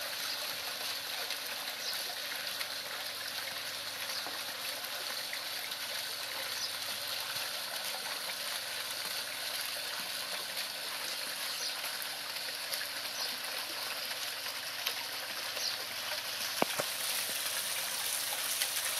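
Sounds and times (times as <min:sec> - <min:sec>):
fountain splashing into pond: 0:00.0 - 0:18.9.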